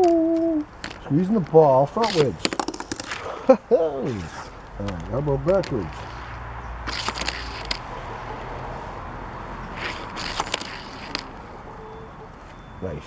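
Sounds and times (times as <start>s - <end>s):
toy car rolling and clattering: 0.0s - 12.8s.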